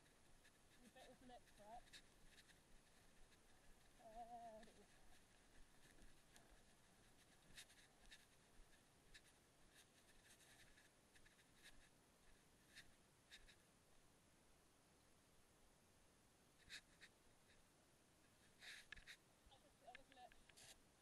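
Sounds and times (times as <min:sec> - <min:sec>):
faint irregular ticks: 0:00.0 - 0:13.7, 0:16.6 - 0:20.8.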